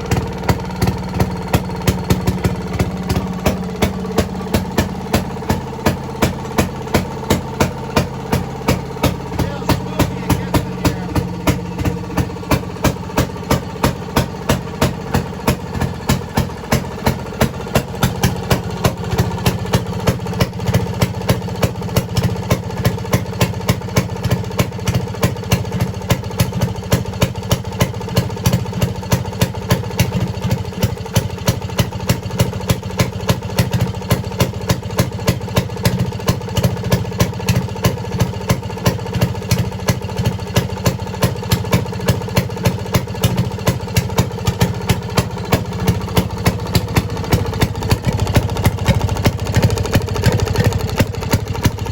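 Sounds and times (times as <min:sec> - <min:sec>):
two-stroke engine running: 0:00.0 - 0:51.9.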